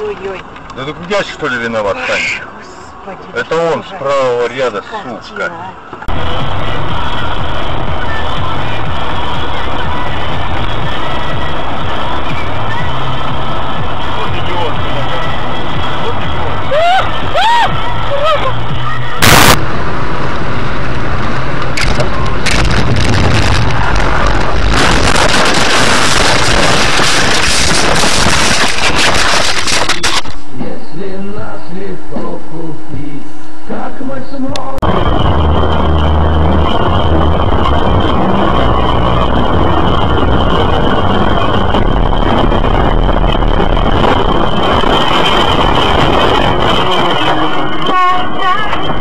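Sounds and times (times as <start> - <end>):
low road rumble: 0.0 - 49.0.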